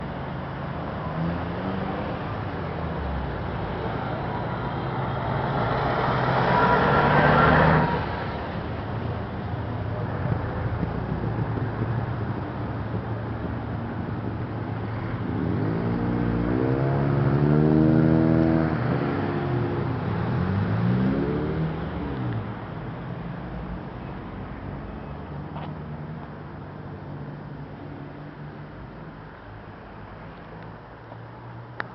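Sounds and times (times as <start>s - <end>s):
cars passing: 0.0s - 31.9s.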